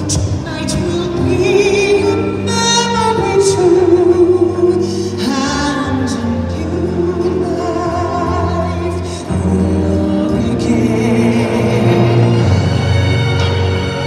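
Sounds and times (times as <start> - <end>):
woman singing a slow ballad: 0.0 - 12.4
sustained musical accompaniment: 0.0 - 14.0.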